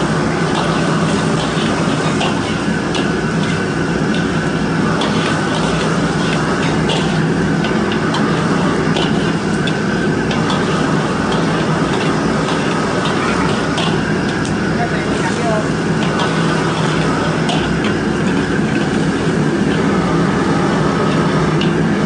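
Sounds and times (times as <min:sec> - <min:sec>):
gas burner roaring: 0:00.0 - 0:22.0.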